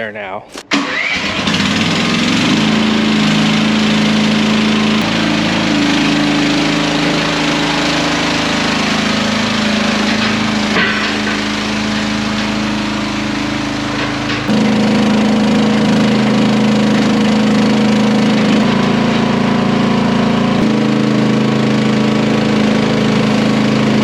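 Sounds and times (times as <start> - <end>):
chainsaw cutting wood: 0.7 - 24.0.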